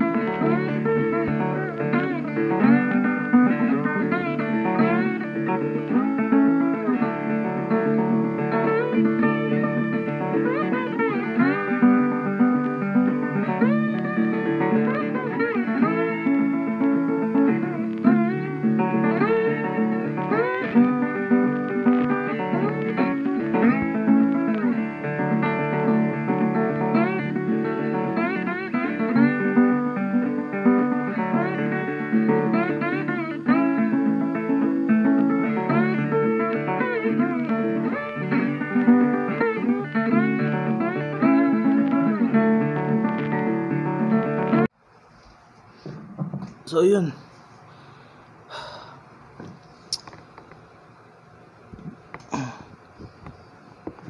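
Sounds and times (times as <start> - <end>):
plucked guitar music: 0.0 - 44.7.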